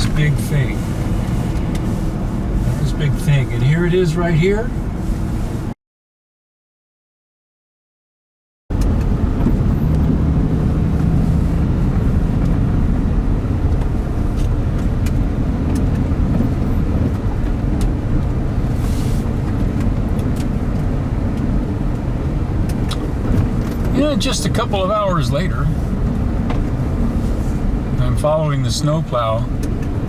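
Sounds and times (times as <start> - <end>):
engine and road rumble: 0.0 - 5.8, 8.7 - 30.0.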